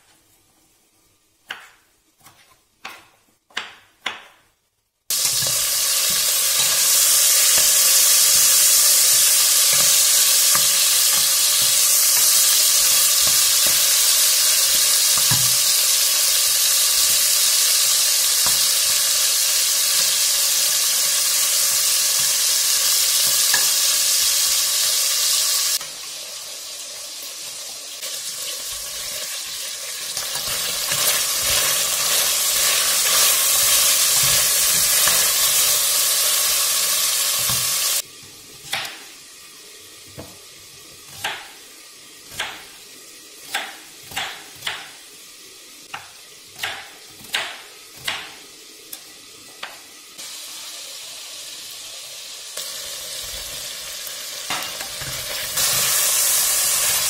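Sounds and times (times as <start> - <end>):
chicken sizzling in oil: 5.1 - 57.0.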